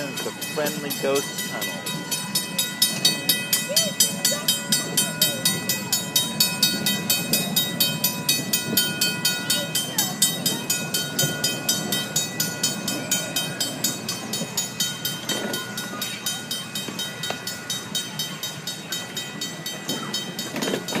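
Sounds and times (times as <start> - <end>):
miniature train clicking on track: 0.0 - 21.0
train low rumble: 0.0 - 21.0.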